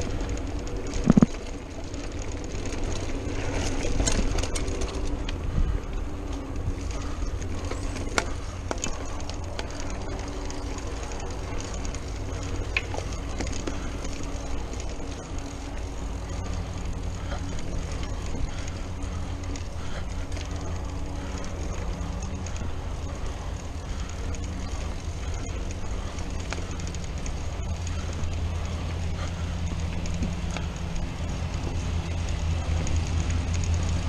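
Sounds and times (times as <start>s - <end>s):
bike rattling and knocking: 0.0s - 34.0s
bike tyre noise on dirt: 0.0s - 34.0s
wind buffeting microphone: 0.0s - 34.0s.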